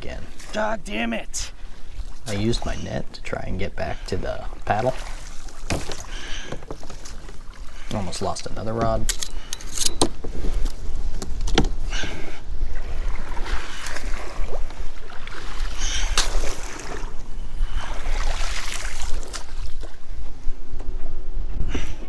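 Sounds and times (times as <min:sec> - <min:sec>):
water splashing: 0:00.0 - 0:11.2, 0:11.8 - 0:20.2.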